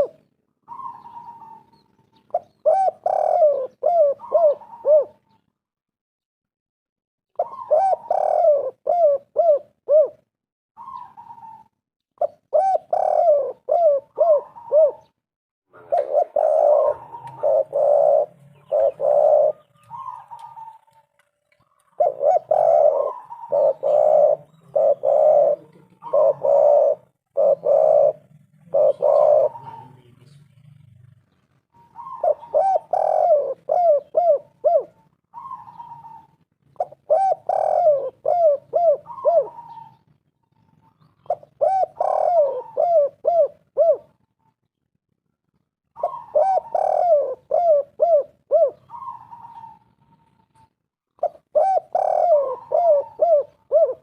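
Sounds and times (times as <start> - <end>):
dove cooing: 0.0 - 5.5, 7.3 - 30.3, 31.4 - 44.3, 45.9 - 54.0.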